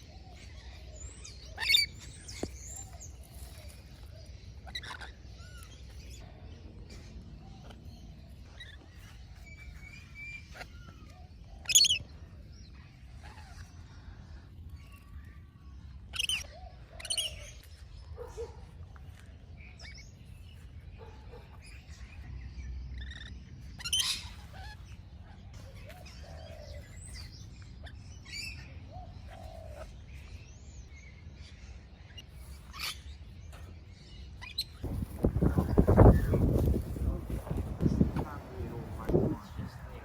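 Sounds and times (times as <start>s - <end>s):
parrots chirping and squawking: 0.0s - 6.2s, 6.9s - 12.1s, 12.7s - 15.0s, 16.1s - 18.6s, 19.6s - 40.0s
low outdoor rumble: 0.0s - 40.0s.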